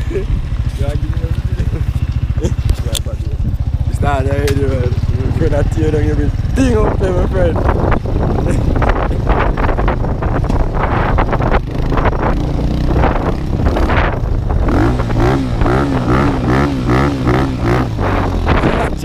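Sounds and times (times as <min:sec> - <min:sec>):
rough buffeting noise: 0:00.0 - 0:19.0
vehicle engine hum: 0:00.0 - 0:19.0.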